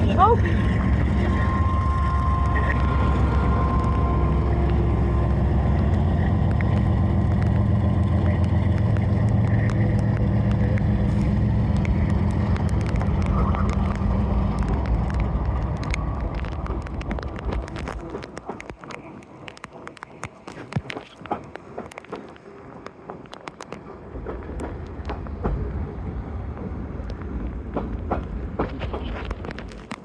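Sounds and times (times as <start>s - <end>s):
diesel locomotive drone: 0.0s - 30.0s.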